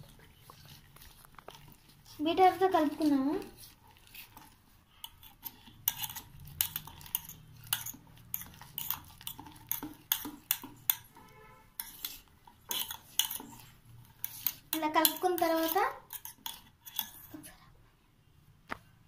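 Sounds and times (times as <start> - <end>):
whisk clinking in steel bowl: 1.6 - 17.4.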